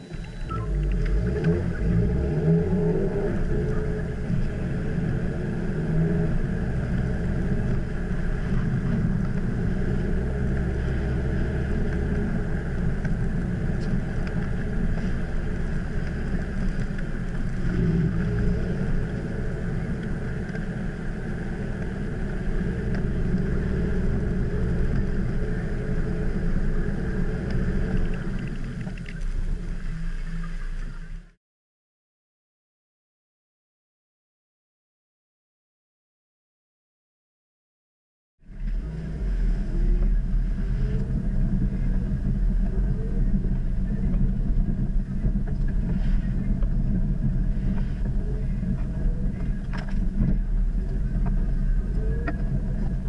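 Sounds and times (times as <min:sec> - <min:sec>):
car engine and tyre rumble: 0:00.0 - 0:31.4, 0:38.4 - 0:53.0.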